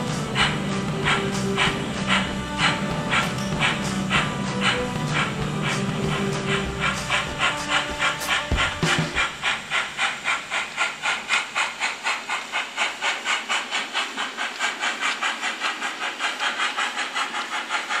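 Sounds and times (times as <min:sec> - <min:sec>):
steam exhaust chuffs from speaker: 0:00.0 - 0:18.0.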